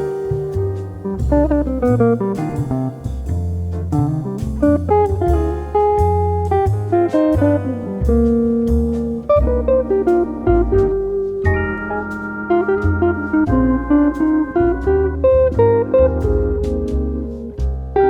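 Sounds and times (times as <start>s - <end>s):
plucked guitar melody: 0.0s - 18.0s
walking bass line: 0.0s - 18.0s.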